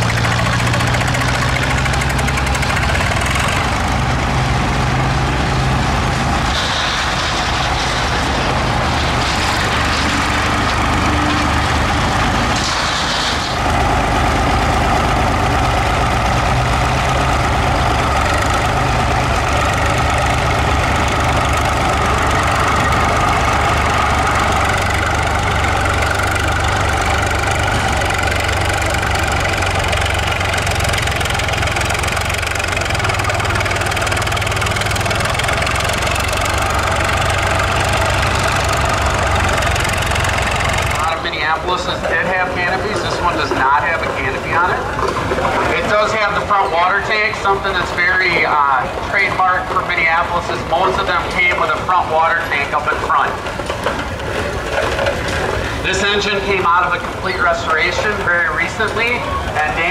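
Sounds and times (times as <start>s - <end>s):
diesel crawler tractor engine: 0.0s - 59.9s.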